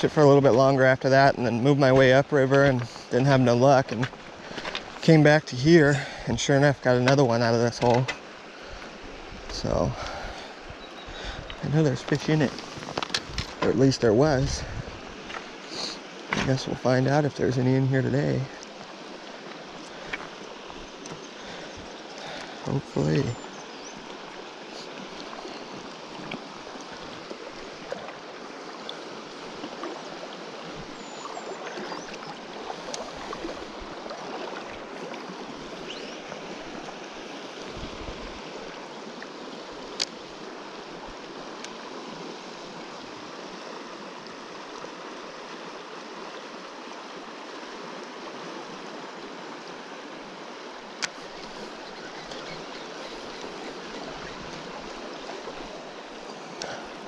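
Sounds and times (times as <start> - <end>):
river water rushing over gravel: 0.0 - 57.0.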